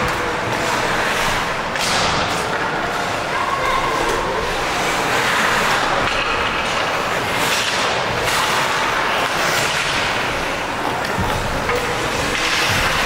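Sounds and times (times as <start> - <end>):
skates cutting ice: 0.0 - 13.0.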